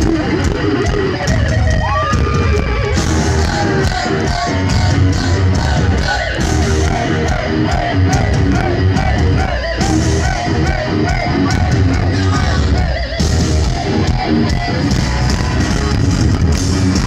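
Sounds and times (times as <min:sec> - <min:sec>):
live heavy metal band: 0:00.0 - 0:17.0.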